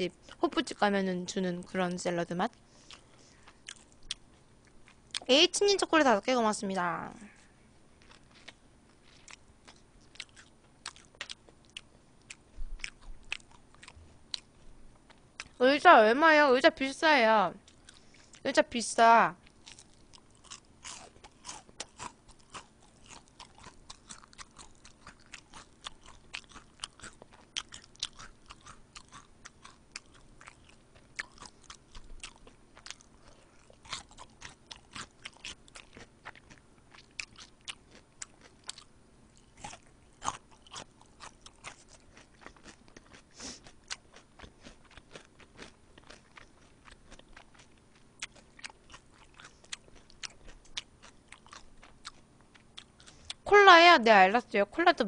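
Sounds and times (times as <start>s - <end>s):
chewing and crunching fried chicken: 0.0s - 6.3s, 7.2s - 16.4s, 17.2s - 53.5s.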